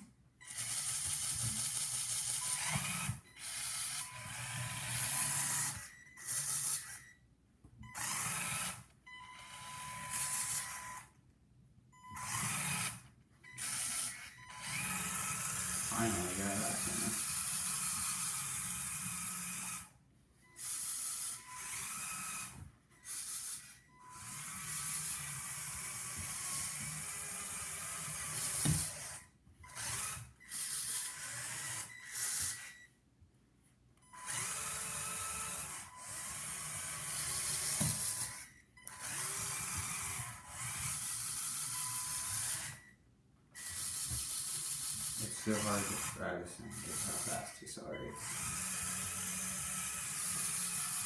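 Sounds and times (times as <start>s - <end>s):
toy motor whining: 0.0s - 7.2s, 7.8s - 11.2s, 12.0s - 32.9s, 34.0s - 51.0s.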